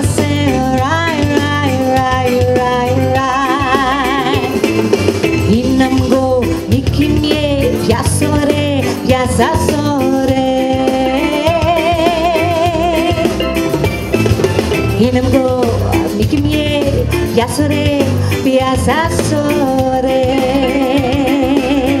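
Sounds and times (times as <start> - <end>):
woman singing: 0.0 - 13.5, 15.0 - 22.0
drums: 0.0 - 22.0
live band with keyboard: 0.0 - 22.0.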